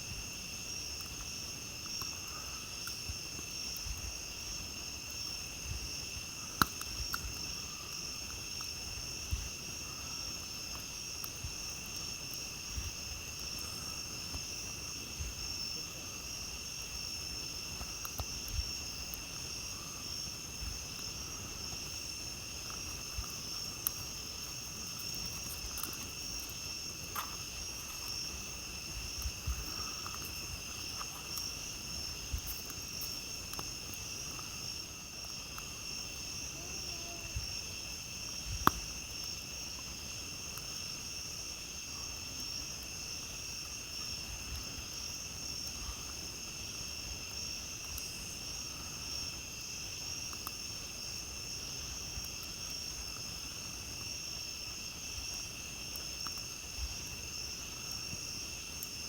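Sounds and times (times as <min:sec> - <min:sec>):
campfire crackling: 0:00.0 - 0:59.0
crickets and night insects: 0:00.0 - 0:59.0.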